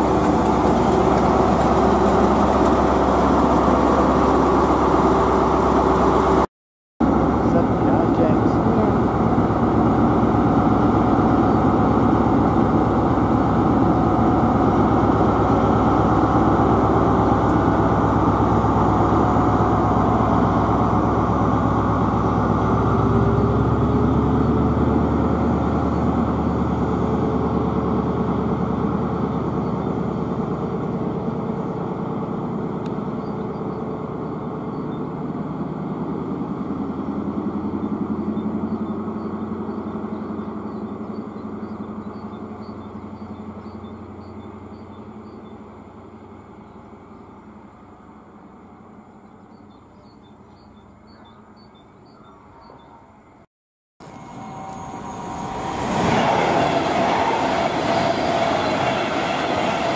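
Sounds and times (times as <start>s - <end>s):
diesel train engine pulling away: 0.0s - 53.4s, 54.0s - 59.9s.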